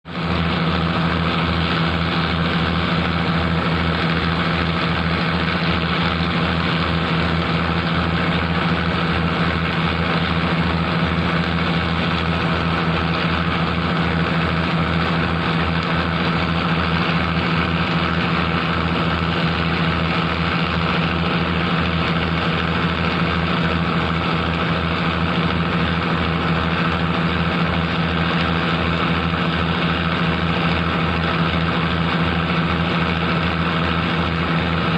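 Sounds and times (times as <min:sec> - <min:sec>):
large engine idling: 0:00.1 - 0:34.9.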